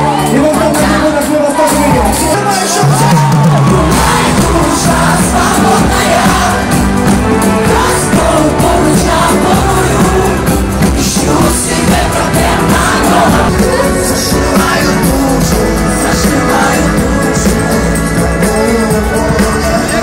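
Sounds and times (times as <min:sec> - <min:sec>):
live pop band music: 0:00.0 - 0:20.0
person singing: 0:00.0 - 0:20.0.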